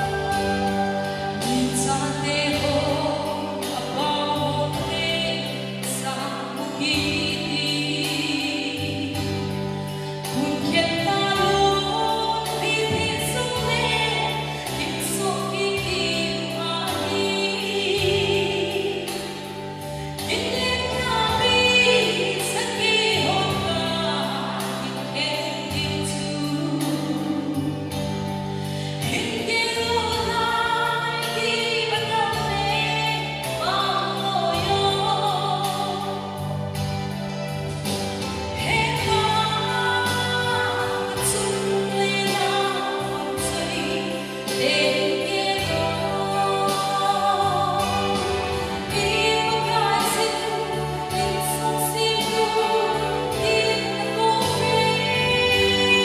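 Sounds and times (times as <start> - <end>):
woman singing into microphone: 0.0 - 37.5, 38.1 - 56.0
instrumental accompaniment with bass: 0.0 - 56.0.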